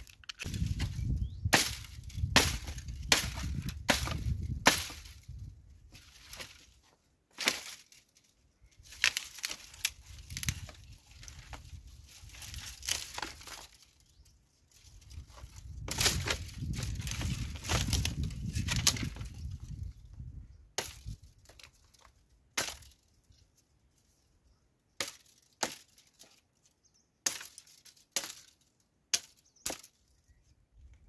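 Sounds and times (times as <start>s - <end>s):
dry branches cracking: 0.0s - 23.4s, 25.0s - 30.2s
twigs rustling and scraping: 0.0s - 31.0s.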